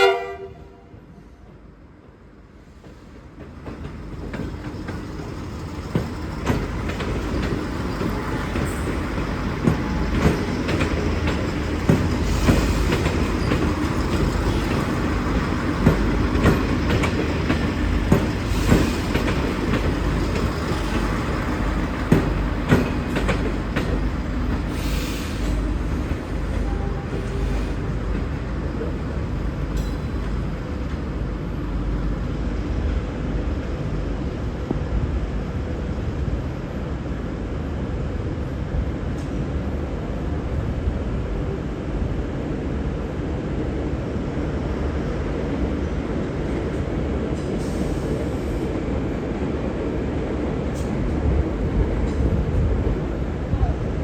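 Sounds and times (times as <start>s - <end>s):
diesel railcar engine rumble: 0.0s - 54.0s.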